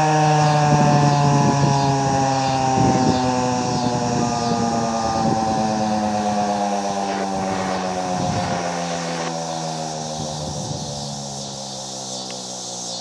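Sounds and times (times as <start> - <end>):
siren winding down: 0.3 - 11.6.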